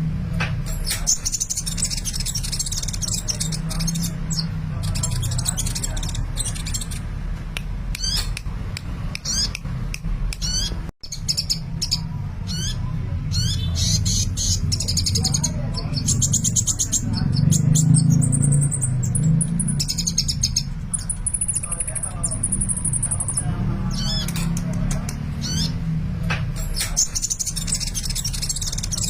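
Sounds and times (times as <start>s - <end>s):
sunbird twittering song: 0.7s - 7.1s, 10.4s - 24.6s, 25.4s - 25.8s, 26.6s - 29.0s.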